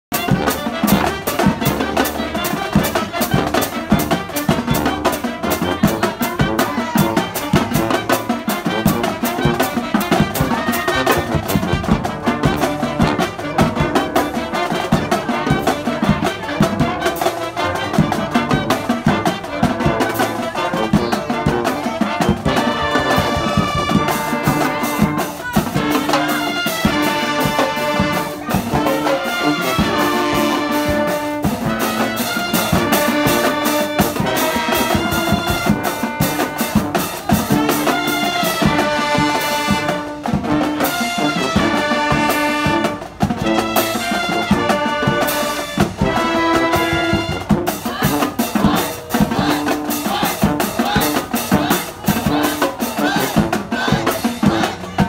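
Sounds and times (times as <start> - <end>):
brass and saxophones playing: 0.0 - 55.0
drumline beat: 0.1 - 55.0.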